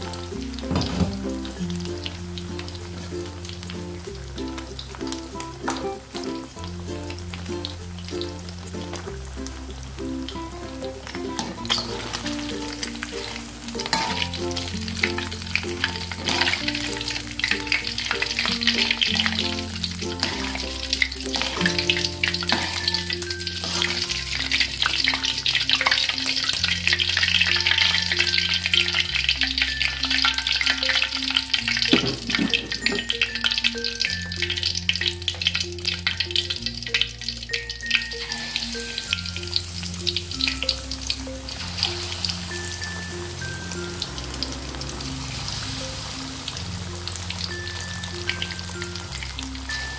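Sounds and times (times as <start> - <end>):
background music low held notes: 0.0 - 49.9
shrimp sizzling in hot oil: 0.0 - 49.9.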